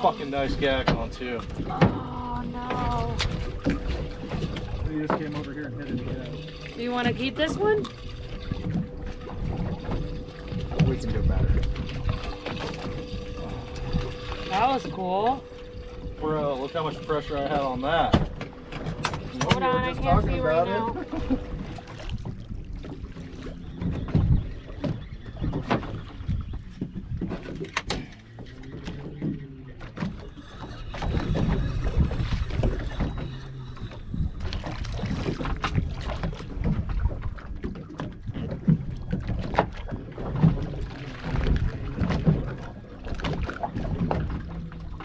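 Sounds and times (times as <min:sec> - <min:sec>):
wind and water rumble: 0:00.0 - 0:45.0.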